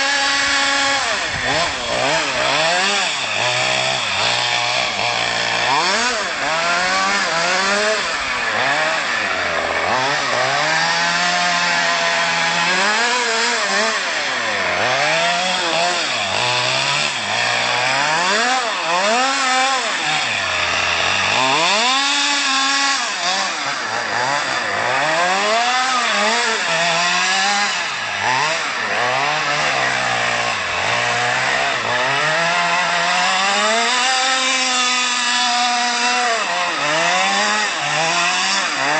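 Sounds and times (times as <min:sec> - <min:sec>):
rc car two-stroke engine revving: 0:00.0 - 0:38.9.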